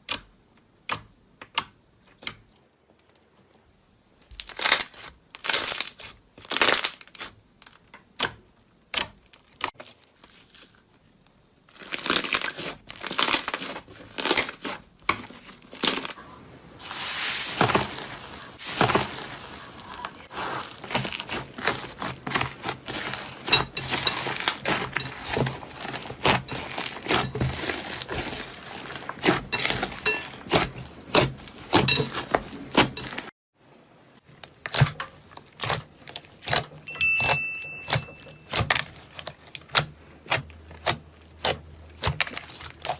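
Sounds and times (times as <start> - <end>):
slime crackling and popping: 4.2 - 16.2, 17.2 - 33.3, 34.2 - 42.9.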